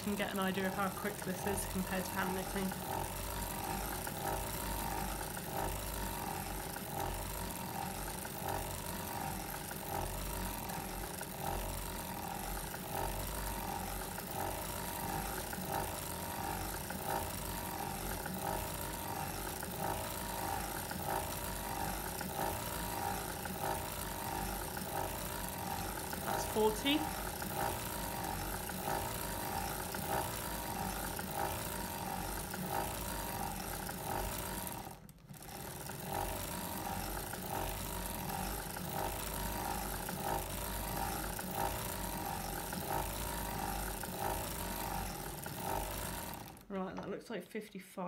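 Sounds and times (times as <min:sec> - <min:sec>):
hand-cranked sock knitting machine: 0:00.0 - 0:47.3.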